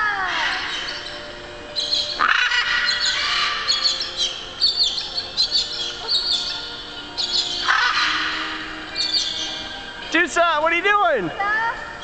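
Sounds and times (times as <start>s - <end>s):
parrots squawking and chirping: 0.0s - 10.1s.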